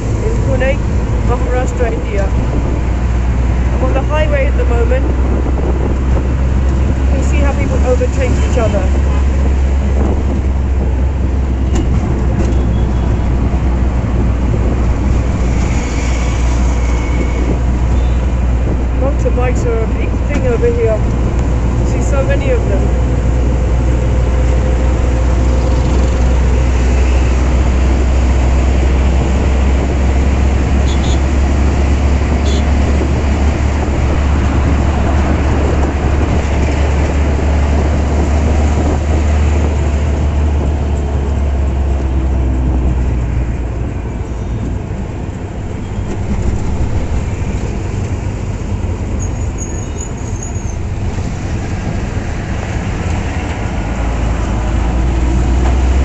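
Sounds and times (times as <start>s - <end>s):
vehicle road and engine rumble: 0.0s - 56.0s.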